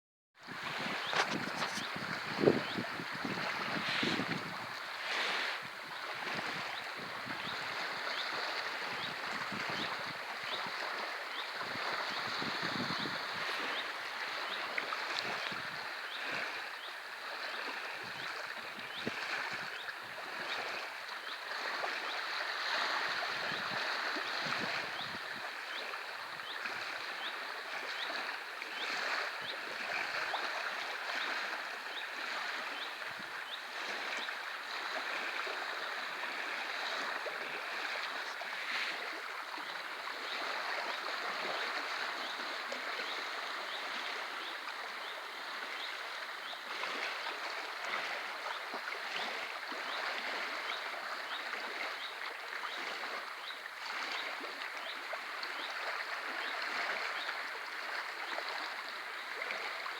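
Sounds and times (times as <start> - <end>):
small waves lapping: 0.4 - 59.9.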